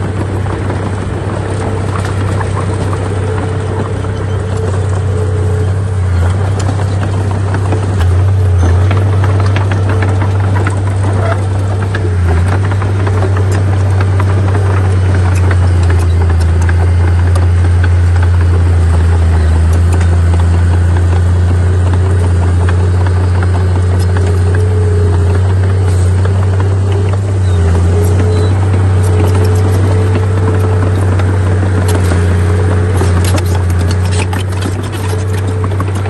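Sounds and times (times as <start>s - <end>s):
heavy diesel engine running: 0.0s - 36.0s
rattles and clanks: 0.0s - 36.0s.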